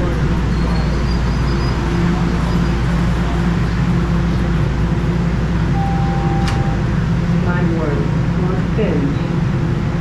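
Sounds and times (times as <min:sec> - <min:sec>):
subway train rumbling: 0:00.0 - 0:10.0.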